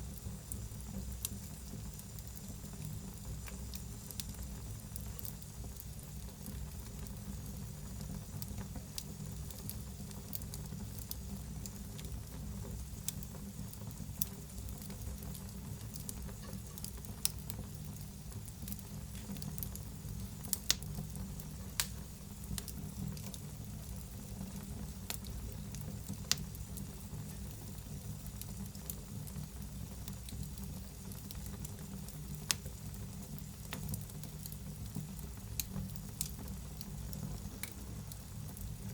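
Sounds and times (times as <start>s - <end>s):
fire crackling and popping: 0.0s - 38.9s
wood fire rumble and hiss: 0.0s - 38.9s.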